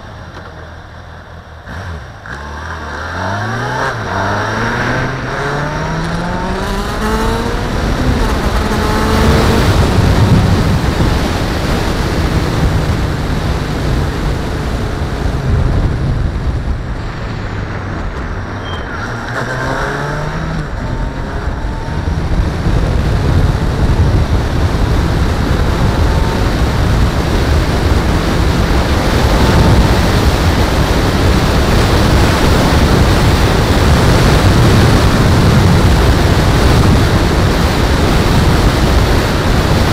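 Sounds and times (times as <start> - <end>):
car engine accelerating: 0.0 - 39.9
tyre and wind noise: 0.0 - 39.9.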